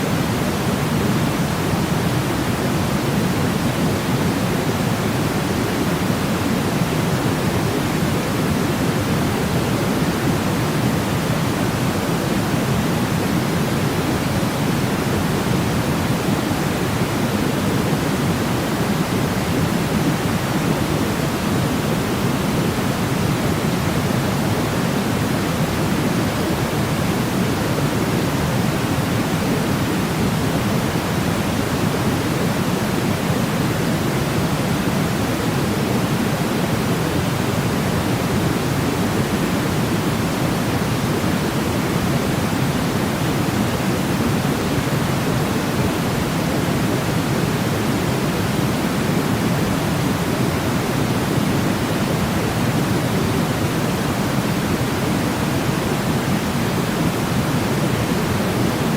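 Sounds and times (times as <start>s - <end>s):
white noise rush: 0.0s - 58.9s.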